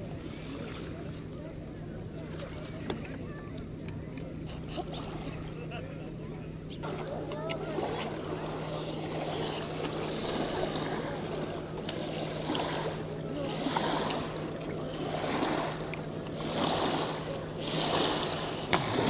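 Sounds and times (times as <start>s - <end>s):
small waves lapping: 0.0s - 19.0s
steady low hum: 0.0s - 19.0s.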